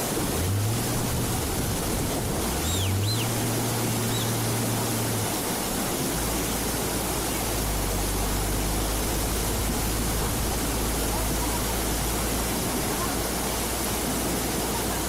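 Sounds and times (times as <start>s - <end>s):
fast-flowing river water: 0.0s - 15.0s
low engine drone: 0.0s - 15.0s.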